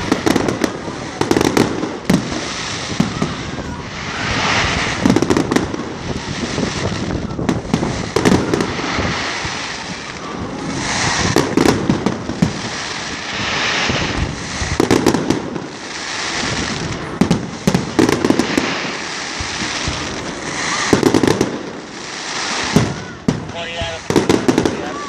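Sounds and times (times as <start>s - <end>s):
firework shells bursting: 0.0s - 25.0s
fireworks hissing crackle: 0.0s - 25.0s.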